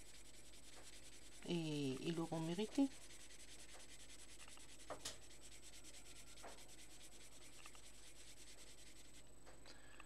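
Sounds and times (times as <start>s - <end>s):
pencil scratching on paper: 0.0s - 9.2s.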